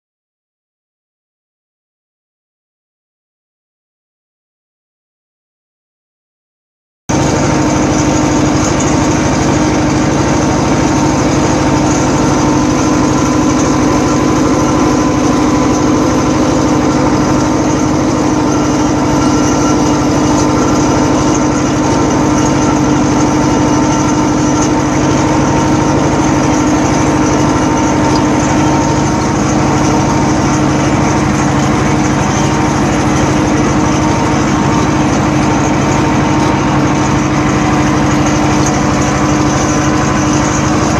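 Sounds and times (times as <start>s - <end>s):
tractor diesel engine running: 7.1s - 40.9s.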